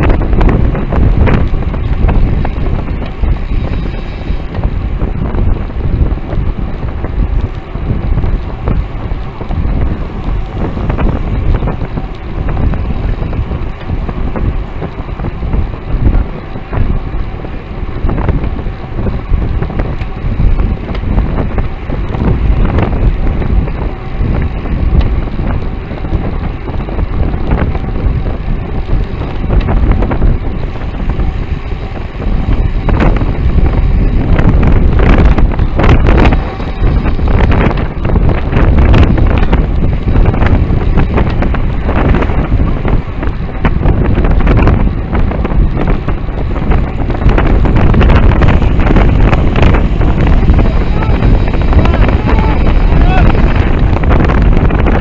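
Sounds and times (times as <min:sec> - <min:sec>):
road rumble: 0:00.0 - 0:55.0
sharp clicks and rattles: 0:00.0 - 0:55.0
wind buffeting microphone: 0:00.0 - 0:55.0.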